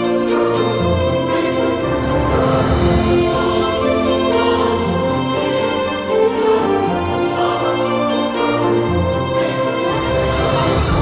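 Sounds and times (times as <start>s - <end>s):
orchestral background music: 0.0s - 11.0s.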